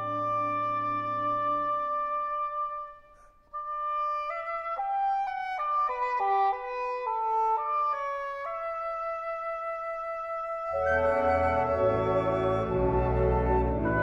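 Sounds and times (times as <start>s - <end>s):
english horn melody: 0.0s - 9.3s, 10.4s - 14.0s
trumpet melody: 0.0s - 14.0s.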